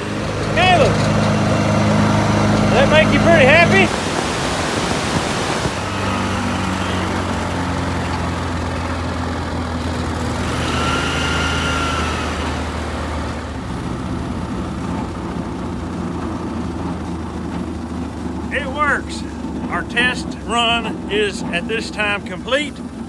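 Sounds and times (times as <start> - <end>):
wood chipper engine running: 0.0 - 23.0.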